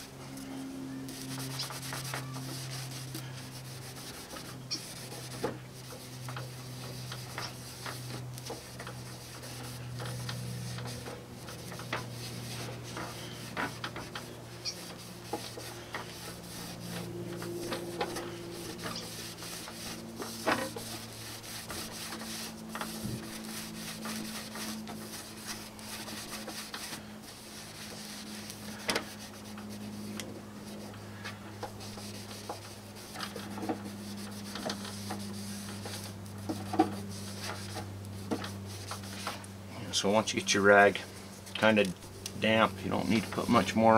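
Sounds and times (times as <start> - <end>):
rag rubbing plastic: 1.0 - 39.5.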